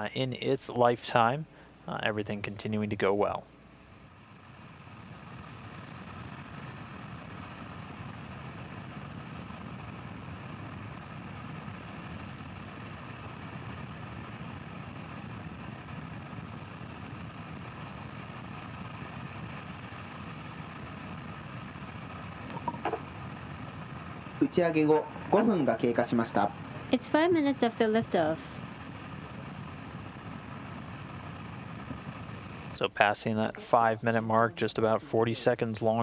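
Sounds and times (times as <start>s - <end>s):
steady hum and hiss: 0.0s - 36.0s.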